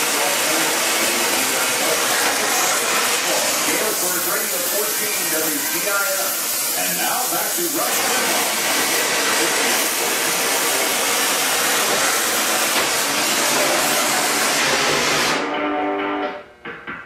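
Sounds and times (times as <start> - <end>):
torch flame hissing: 0.0 - 15.4.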